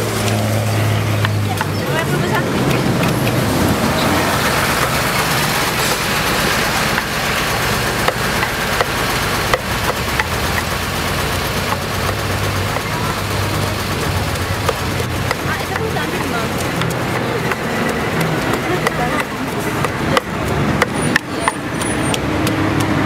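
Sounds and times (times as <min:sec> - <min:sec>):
busy street market: 0:00.0 - 0:23.0
engine-like low hum: 0:00.0 - 0:23.0.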